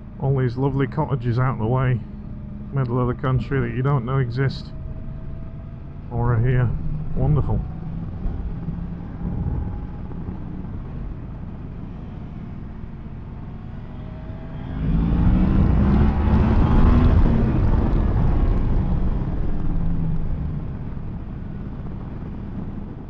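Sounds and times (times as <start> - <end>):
motorcycle engine accelerating: 2.4 - 12.5, 13.4 - 23.0.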